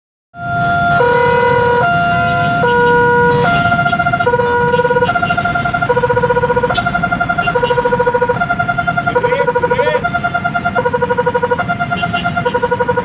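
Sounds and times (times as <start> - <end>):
level-crossing warning siren: 0.4 - 13.0.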